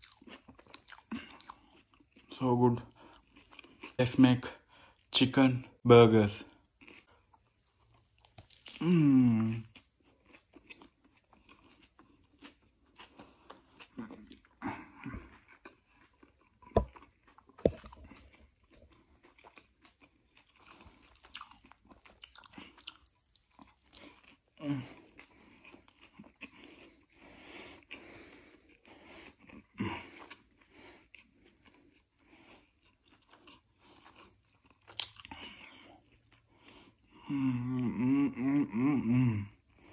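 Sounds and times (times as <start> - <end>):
wet chewing: 0.0 - 4.0, 6.4 - 37.2.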